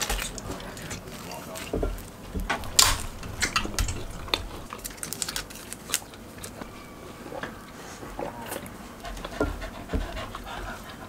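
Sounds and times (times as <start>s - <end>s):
person chewing bread: 0.0s - 11.0s.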